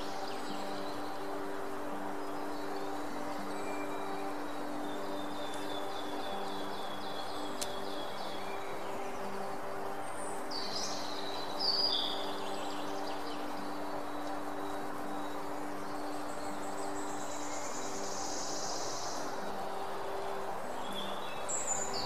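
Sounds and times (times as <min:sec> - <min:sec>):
songbird chirps: 0:00.0 - 0:22.0.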